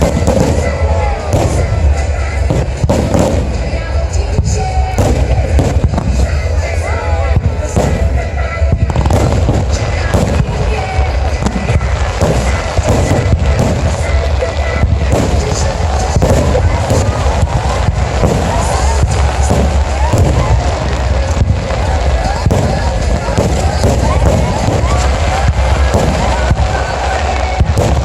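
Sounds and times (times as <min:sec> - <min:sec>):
continuous low rumble: 0:00.0 - 0:28.0
fireworks bursting: 0:00.0 - 0:28.0.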